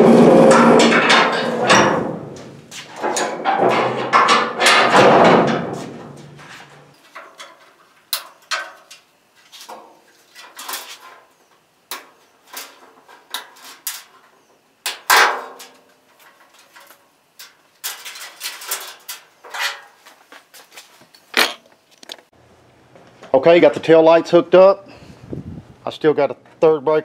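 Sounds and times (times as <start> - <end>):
clicks and rustles of wiring: 0.5 - 22.3.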